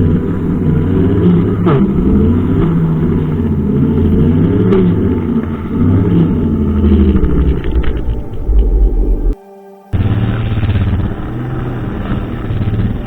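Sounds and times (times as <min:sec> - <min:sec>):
brushcutter engine running: 0:00.0 - 0:13.0.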